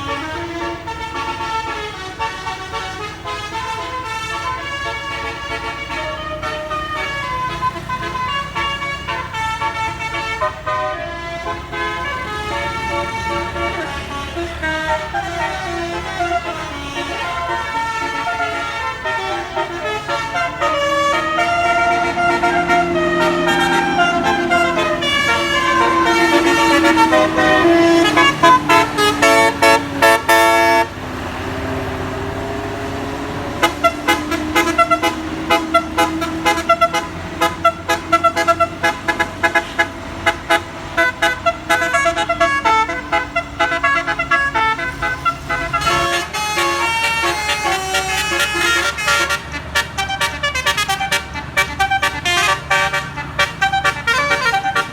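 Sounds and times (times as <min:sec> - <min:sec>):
bus engine: 0:00.0 - 0:54.9
bus horn playing melody: 0:00.0 - 0:54.9.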